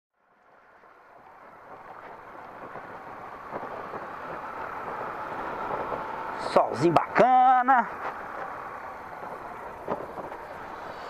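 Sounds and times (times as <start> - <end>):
motorcycle riding: 0.2 - 11.0
wind rushing over microphone: 0.8 - 11.0.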